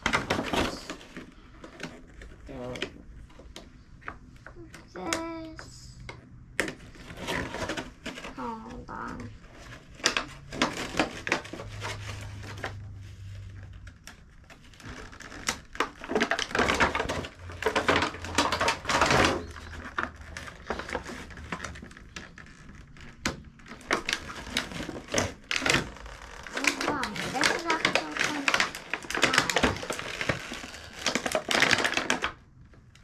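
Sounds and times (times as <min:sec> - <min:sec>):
packaging rustling and crinkling: 0:00.0 - 0:04.1, 0:06.6 - 0:33.0.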